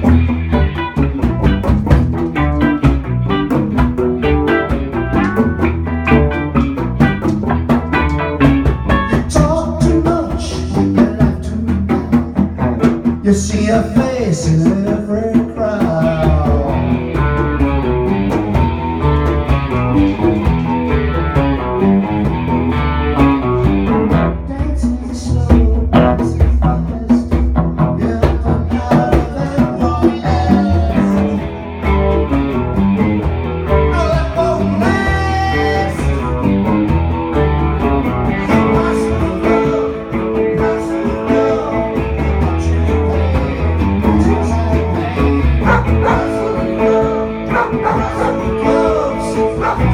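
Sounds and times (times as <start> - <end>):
live blues-rock band: 0.0 - 49.9.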